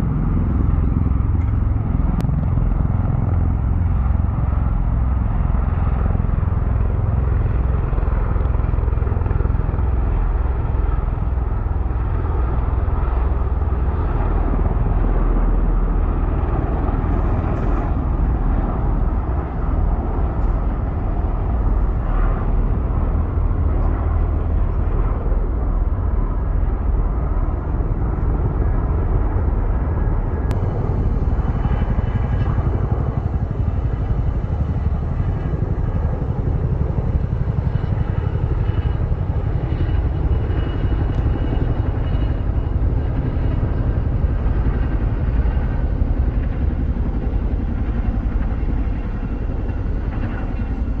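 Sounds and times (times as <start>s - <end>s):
jet engines rumbling: 0.0s - 51.0s.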